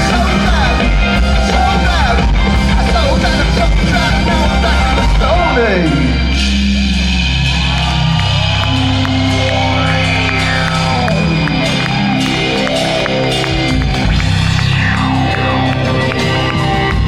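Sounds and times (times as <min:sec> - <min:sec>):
bass guitar sustained notes: 0:00.0 - 0:17.0
electric guitars: 0:00.0 - 0:17.0.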